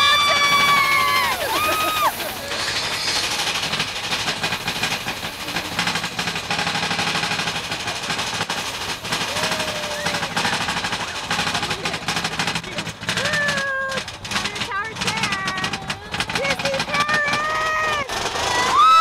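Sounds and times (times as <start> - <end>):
roller coaster cars rattling: 0.0 - 19.0.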